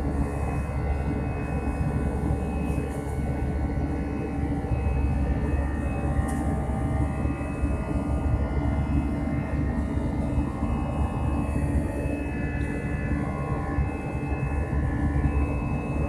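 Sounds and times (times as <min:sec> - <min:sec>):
high engine whine: 0:00.0 - 0:16.0.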